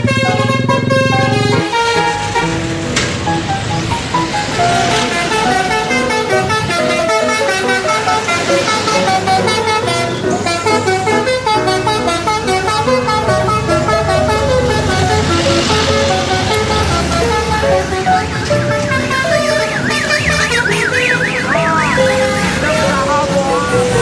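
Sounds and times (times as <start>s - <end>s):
multi-tone horns playing notes: 0.0s - 24.0s.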